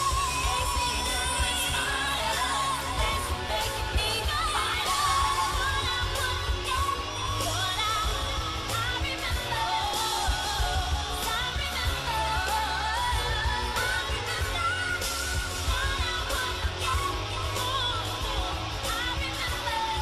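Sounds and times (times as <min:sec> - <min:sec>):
pop song with vocals: 0:00.0 - 0:20.0.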